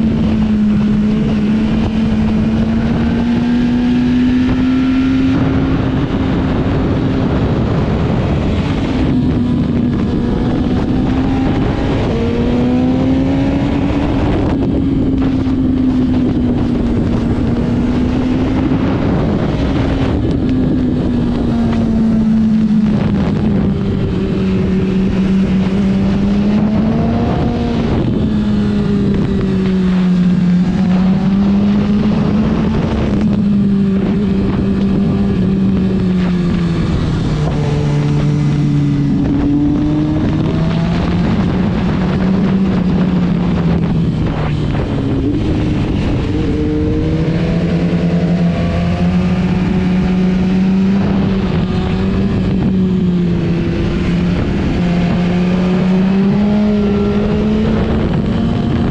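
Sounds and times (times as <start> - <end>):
motorcycle engine running: 0.0 - 58.9
wind noise on microphone: 0.0 - 58.9.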